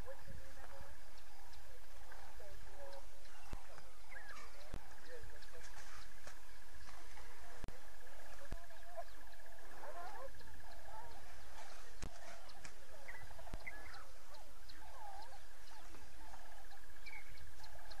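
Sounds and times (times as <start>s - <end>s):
birds warbling and chirping: 0.0s - 18.0s.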